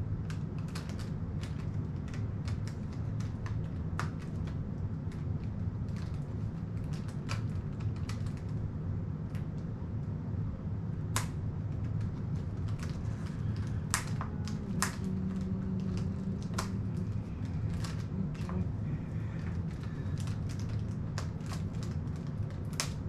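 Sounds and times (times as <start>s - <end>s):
steady low hum: 0.0s - 23.0s
small objects clicking in hands: 0.2s - 8.6s, 11.1s - 18.6s, 19.2s - 23.0s.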